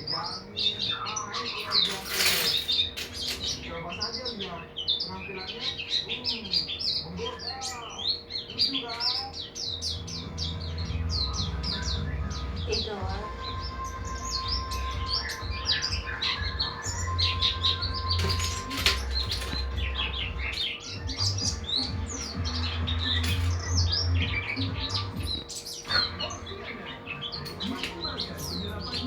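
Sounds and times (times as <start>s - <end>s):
small bird chirping: 0.0s - 29.0s.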